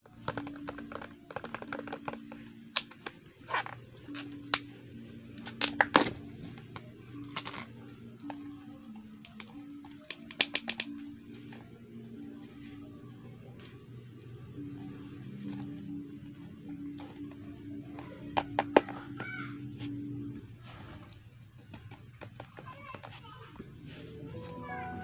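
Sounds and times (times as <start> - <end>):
faint low tones: 0.0 - 22.3.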